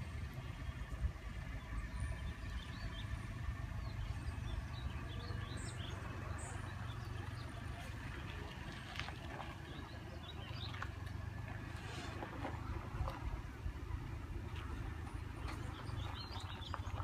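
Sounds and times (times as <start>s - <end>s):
small birds chirping: 0.0s - 11.1s, 14.0s - 17.0s
steady low rumble: 0.0s - 17.0s.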